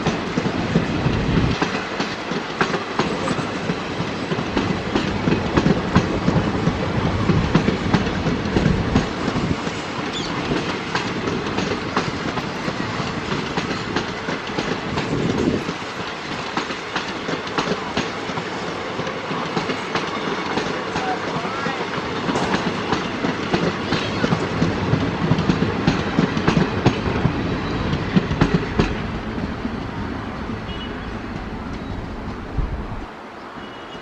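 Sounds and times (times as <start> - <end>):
train wheels clicking over joints: 0.0 - 33.1
train rumble: 0.0 - 34.0.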